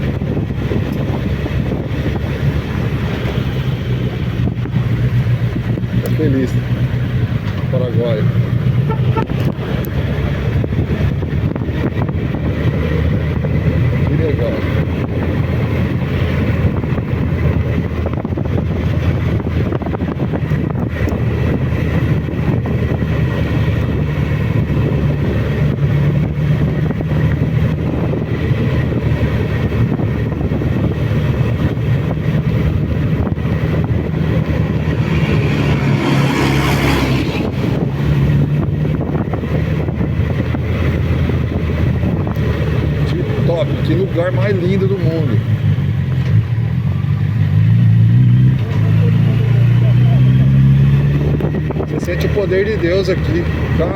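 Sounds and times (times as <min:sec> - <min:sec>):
motorcycle engine running: 0:00.0 - 0:53.9
rush of noise: 0:00.0 - 0:53.9
wind noise on microphone: 0:00.0 - 0:53.9.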